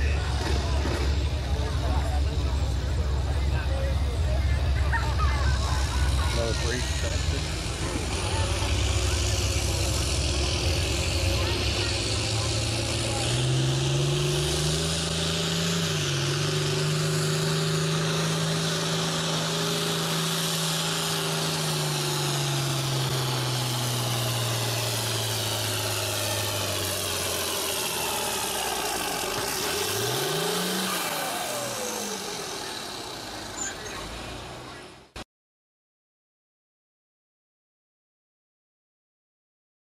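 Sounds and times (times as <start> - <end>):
diesel tractor engine under load: 0.0 - 35.2.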